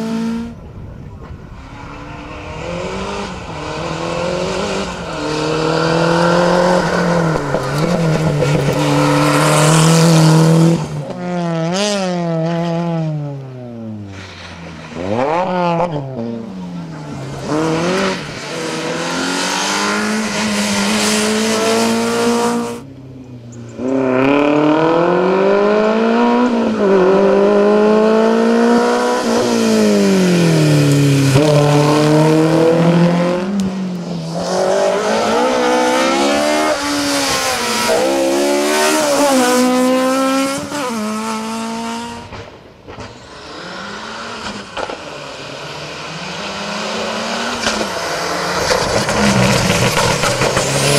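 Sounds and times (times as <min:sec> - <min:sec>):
rally car engines revving: 0:00.0 - 0:22.8, 0:23.5 - 0:50.9.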